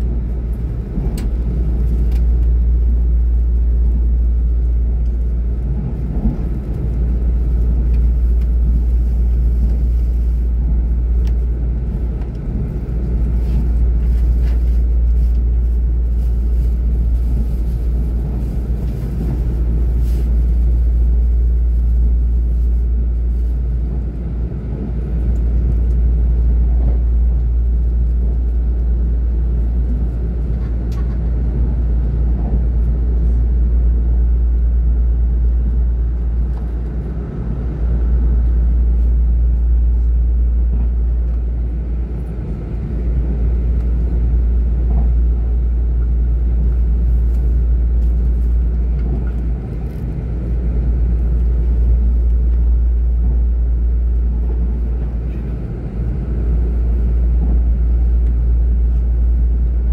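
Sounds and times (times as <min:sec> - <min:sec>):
passenger train rumble: 0:00.0 - 0:59.9.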